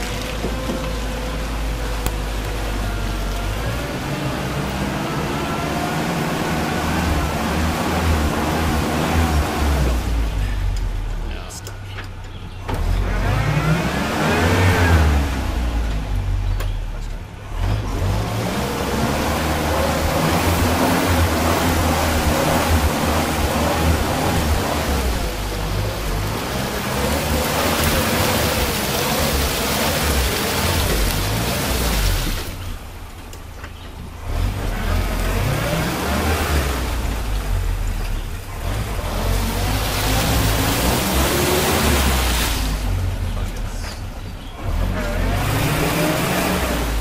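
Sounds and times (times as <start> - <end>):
muddy water churning: 0.0 - 11.2, 17.5 - 33.2, 34.1 - 47.0
engine revving under load: 0.0 - 11.6, 12.6 - 33.0, 34.1 - 47.0.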